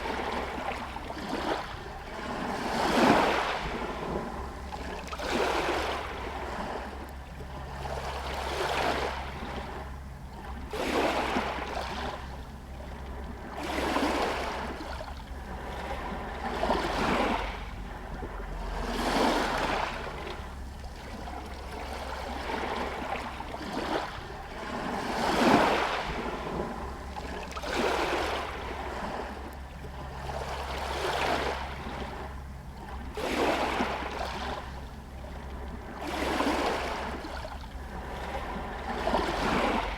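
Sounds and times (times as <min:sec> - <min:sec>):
waves lapping against stones: 0:00.0 - 0:39.9
steady low rumble: 0:03.6 - 0:39.9.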